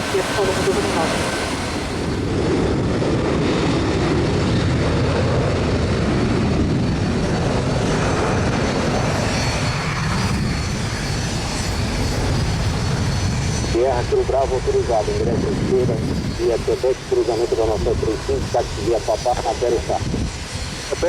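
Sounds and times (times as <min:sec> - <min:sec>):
airliner engines running: 0:00.0 - 0:21.0.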